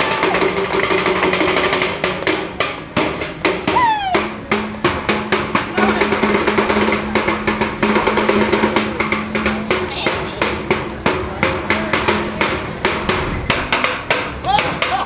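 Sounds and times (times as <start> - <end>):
drums and percussion: 0.0 - 15.0.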